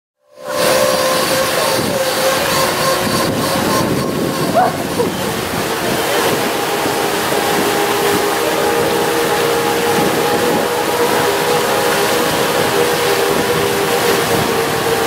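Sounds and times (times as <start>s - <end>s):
fountain jets splashing: 0.4s - 15.0s.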